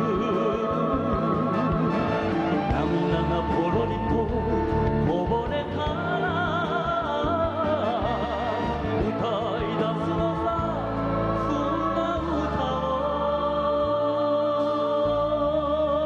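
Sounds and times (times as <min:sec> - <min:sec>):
live band with vibrato lead melody: 0:00.0 - 0:15.0.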